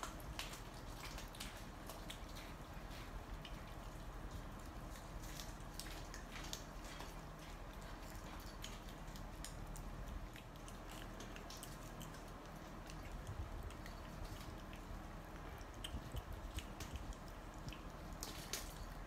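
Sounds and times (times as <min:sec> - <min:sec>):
cat eating wet mouth clicks: 0:00.0 - 0:19.0.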